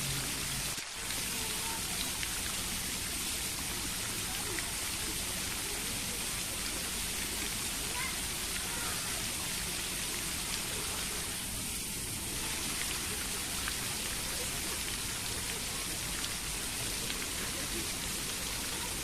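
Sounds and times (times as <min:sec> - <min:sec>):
faint distant voices: 0:00.0 - 0:19.0
running splashing water: 0:00.0 - 0:19.0.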